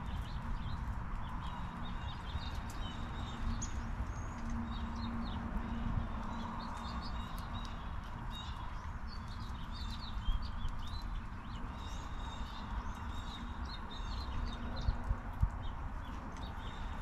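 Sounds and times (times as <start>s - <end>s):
light ticks: 0.0s - 5.4s, 6.2s - 17.0s
small songbirds chirping: 0.0s - 17.0s.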